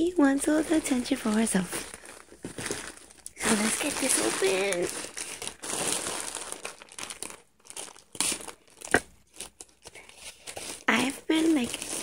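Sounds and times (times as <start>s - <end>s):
plastic bag crinkling: 0.2s - 12.0s.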